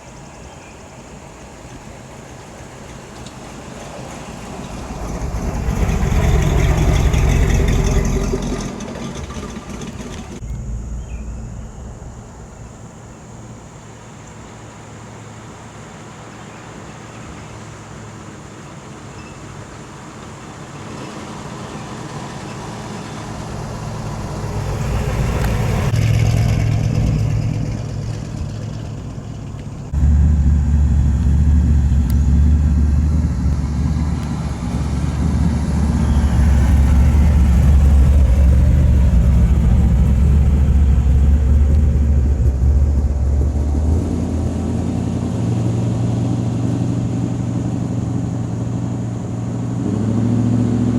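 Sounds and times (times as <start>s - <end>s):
deep steady engine rumble: 0.0s - 50.9s
car passing: 2.7s - 50.9s.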